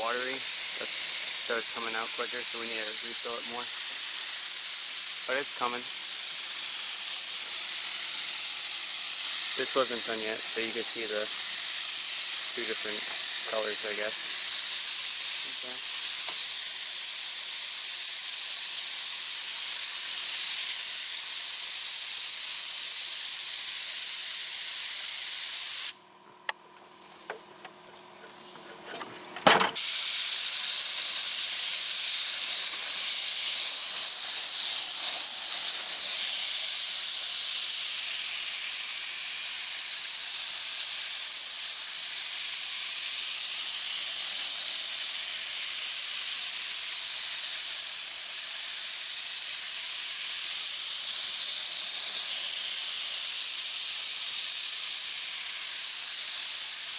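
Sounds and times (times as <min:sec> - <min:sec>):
paint spray gun hissing: 0:00.0 - 0:26.0, 0:29.8 - 0:56.9.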